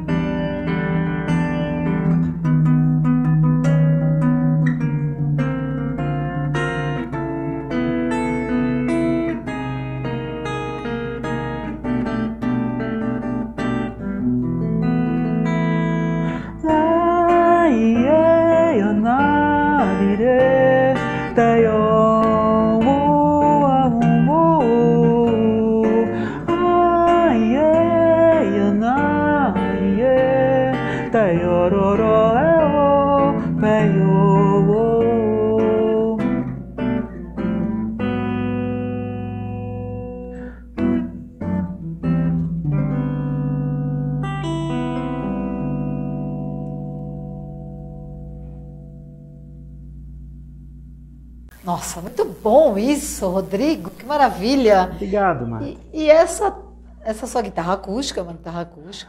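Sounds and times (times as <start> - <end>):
acoustic guitar through effects: 0.0 - 59.0.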